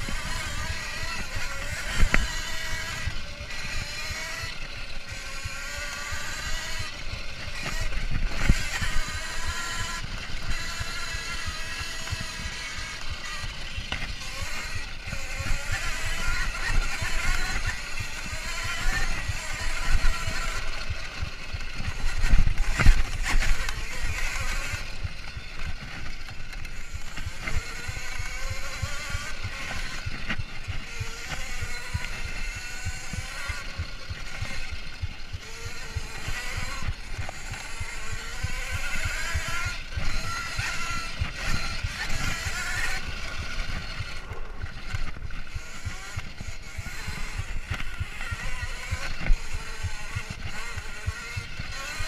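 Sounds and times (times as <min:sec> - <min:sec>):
electric motor whine: 0:00.0 - 0:52.0
rattle and knocking from bumps: 0:00.0 - 0:52.0.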